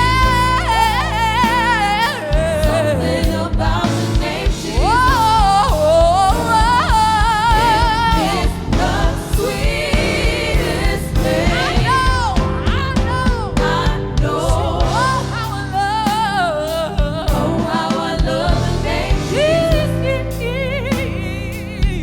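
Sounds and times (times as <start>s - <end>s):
band with bass and drums: 0.0s - 22.0s
person singing gospel: 0.0s - 22.0s.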